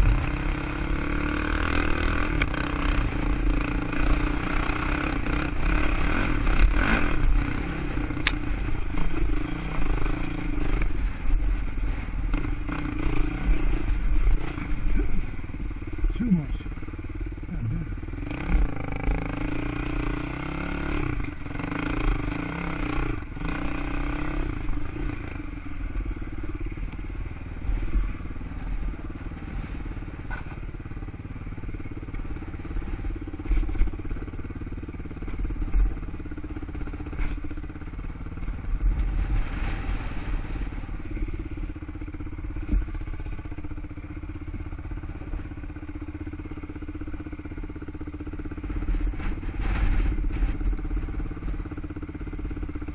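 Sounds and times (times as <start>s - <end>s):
constant low rumble: 0.0s - 52.9s
quad engine running: 0.0s - 52.9s.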